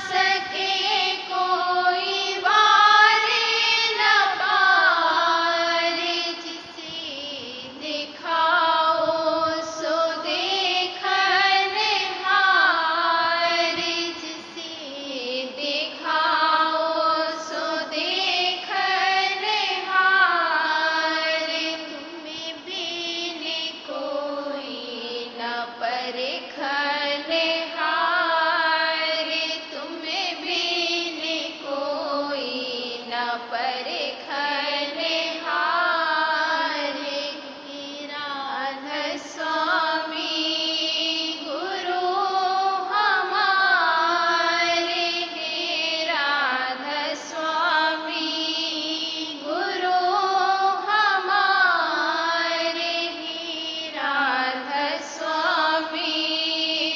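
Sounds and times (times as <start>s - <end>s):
person singing devotional chant: 0.0s - 56.9s.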